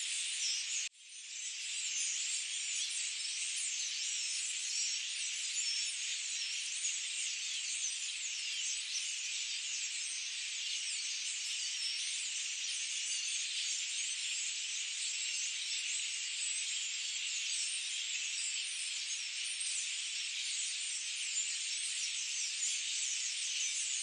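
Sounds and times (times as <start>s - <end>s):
small birds chirping and trilling: 0.0s - 24.0s.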